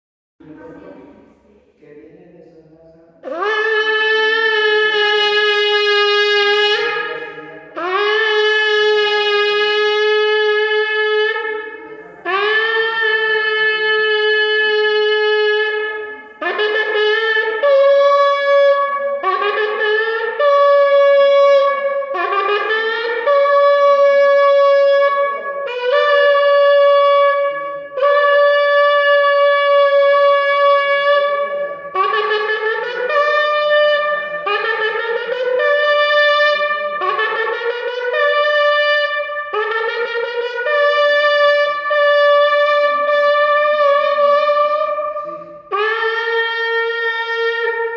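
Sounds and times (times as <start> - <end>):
shofar blasts: 3.2 - 47.9.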